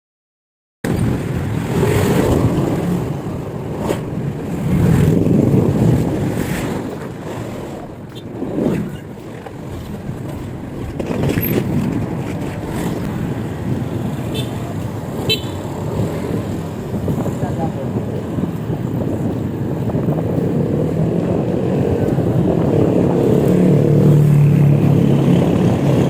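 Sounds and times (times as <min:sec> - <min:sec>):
road traffic: 0:00.8 - 0:26.0
wind buffeting microphone: 0:00.8 - 0:26.0.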